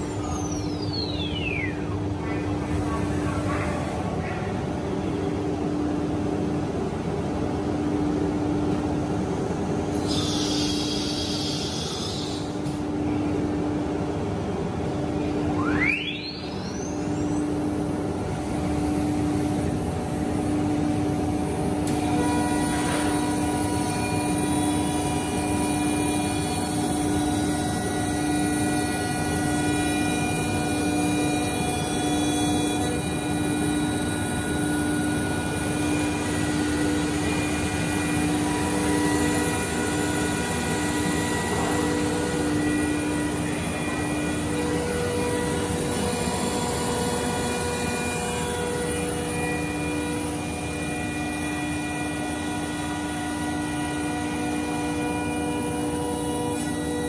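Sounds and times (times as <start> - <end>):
high steady whining tones: 0.0 - 57.0
machine hum: 0.0 - 57.0.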